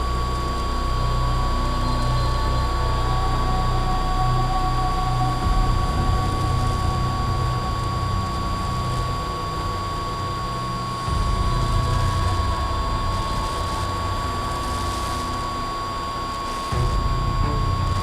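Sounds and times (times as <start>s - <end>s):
low wind-like rumble: 0.0s - 18.0s.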